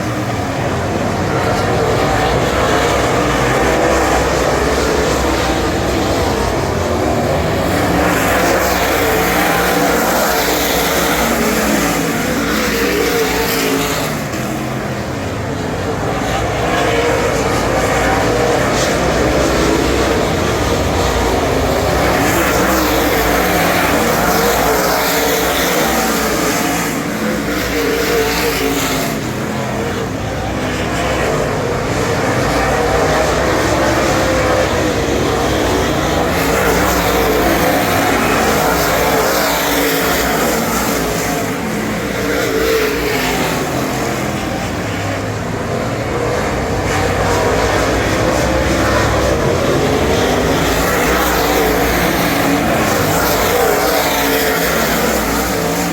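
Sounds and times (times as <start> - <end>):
race car engine running hard: 0.0 - 55.9.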